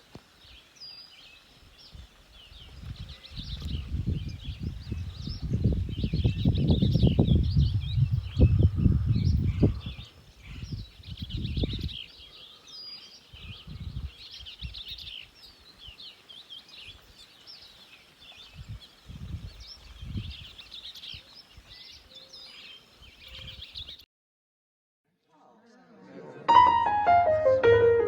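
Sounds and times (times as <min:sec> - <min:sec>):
small birds chirping: 0:00.1 - 0:24.1.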